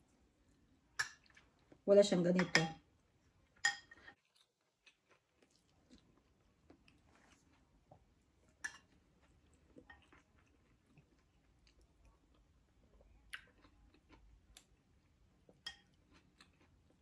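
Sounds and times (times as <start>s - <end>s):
faint chewing: 3.0s - 17.0s.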